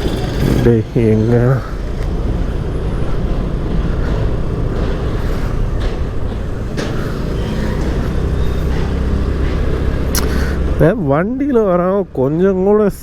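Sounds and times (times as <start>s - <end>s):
scooter engine: 0.0s - 12.6s
road noise: 0.0s - 13.0s.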